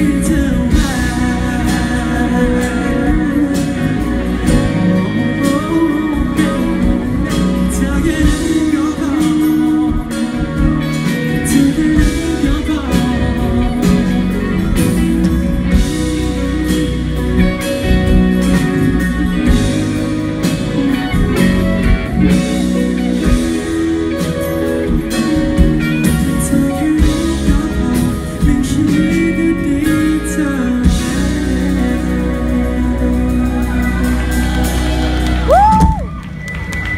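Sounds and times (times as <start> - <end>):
man singing lead vocals: 0.0 - 35.8
bass guitar: 0.0 - 36.9
drums: 0.0 - 36.9
electric guitars: 0.0 - 36.9
keyboard: 0.0 - 36.9.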